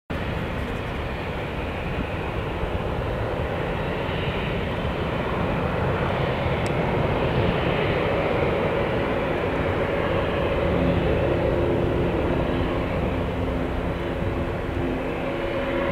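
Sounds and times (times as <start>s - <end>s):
jet engines at takeoff power: 0.1s - 15.9s.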